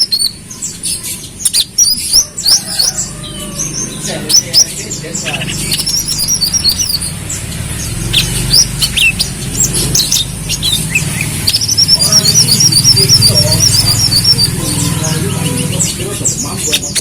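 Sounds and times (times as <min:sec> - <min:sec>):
bird chirping and trilling: 0:00.0 - 0:17.0.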